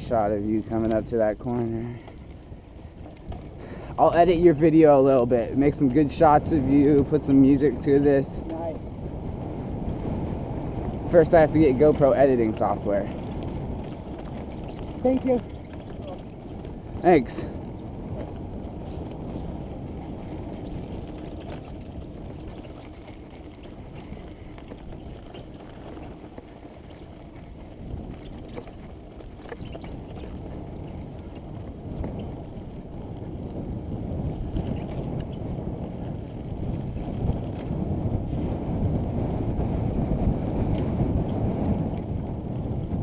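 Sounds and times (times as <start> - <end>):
bike tyres rumbling on dirt: 0.0 - 43.0
wind rushing over microphone: 0.0 - 43.0.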